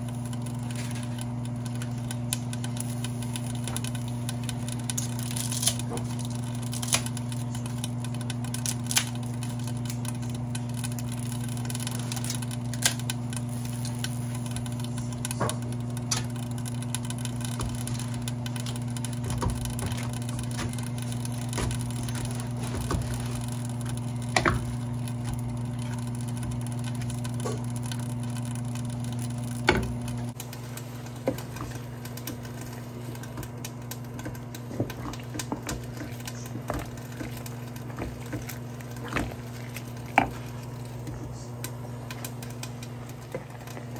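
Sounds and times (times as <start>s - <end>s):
kitchen appliance motor hum: 0.0s - 43.9s.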